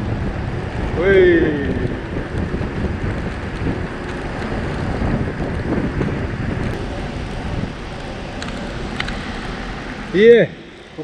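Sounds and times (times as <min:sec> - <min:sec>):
bike tyres rolling: 0:00.0 - 0:11.0
wind rushing over microphone: 0:00.0 - 0:11.0.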